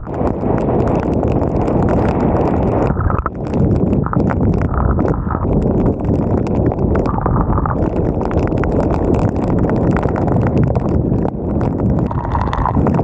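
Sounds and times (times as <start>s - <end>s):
raindrops tapping on camera: 0.0s - 13.0s
wind buffeting microphone: 0.0s - 13.0s.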